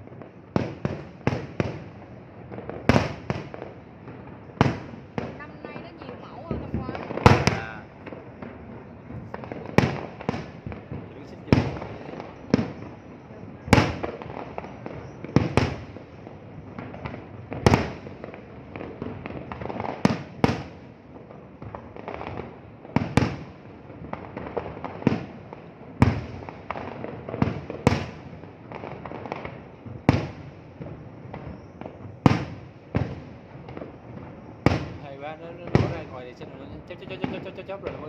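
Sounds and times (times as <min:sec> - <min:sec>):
din of small firework bursts: 0:00.0 - 0:38.0
firework shells booming: 0:00.0 - 0:38.0.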